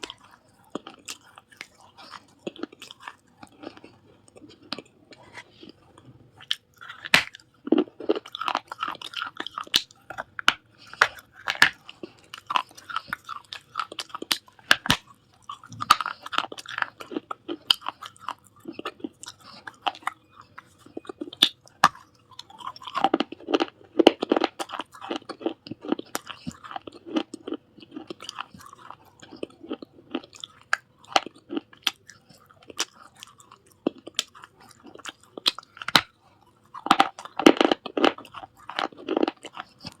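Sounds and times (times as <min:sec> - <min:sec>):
clay pieces being chewed: 0:00.0 - 0:40.0.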